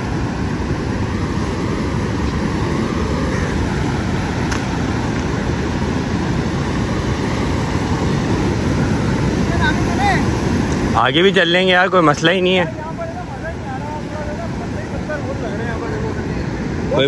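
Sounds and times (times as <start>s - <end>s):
sea surf at shore: 0.0s - 17.0s
wind: 0.0s - 17.0s
wind buffeting microphone: 0.0s - 17.0s.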